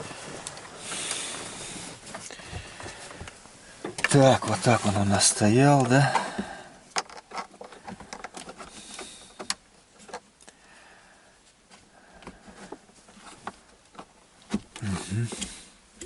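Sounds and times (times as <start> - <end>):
faint rustling: 0.0 - 16.0.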